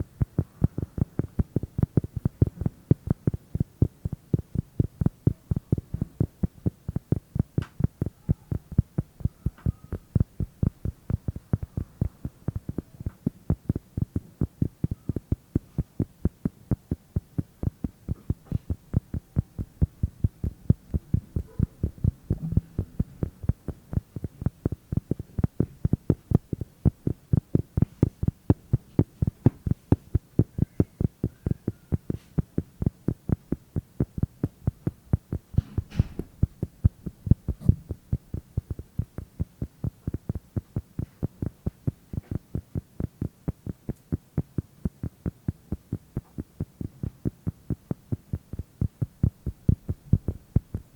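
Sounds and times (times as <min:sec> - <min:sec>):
dull rapid tapping: 0:00.0 - 0:50.9.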